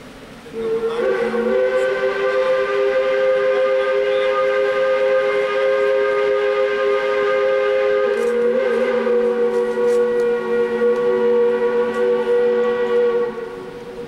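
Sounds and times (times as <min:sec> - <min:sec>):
steam locomotive whistle: 0:00.0 - 0:14.0.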